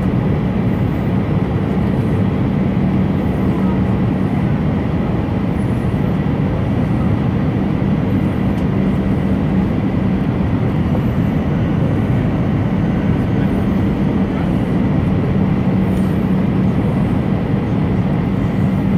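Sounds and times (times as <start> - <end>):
jet engine and airflow drone: 0.0 - 18.9.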